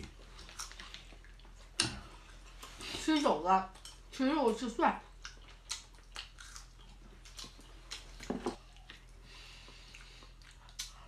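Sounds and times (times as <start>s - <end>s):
person chewing food: 0.0s - 3.0s, 3.7s - 4.1s, 5.1s - 11.0s.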